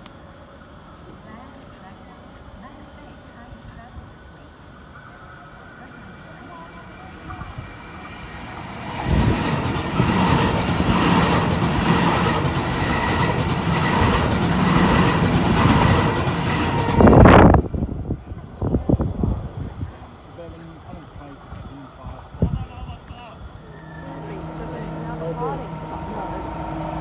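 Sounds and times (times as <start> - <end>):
electric train passing: 0.0 - 27.0.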